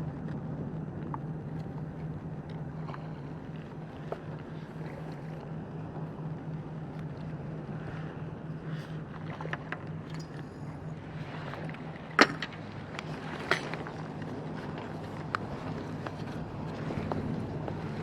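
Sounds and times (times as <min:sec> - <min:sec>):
low pulsing engine hum: 0:00.0 - 0:18.0.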